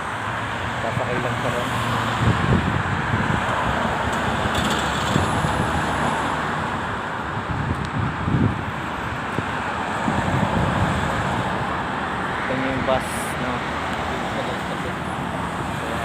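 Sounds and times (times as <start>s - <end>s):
bus engine and tyre rumble: 0.0s - 16.0s.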